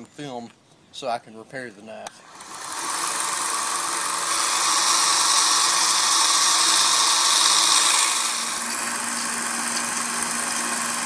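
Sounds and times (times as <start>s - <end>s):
belt sander grinding steel: 2.1s - 11.0s.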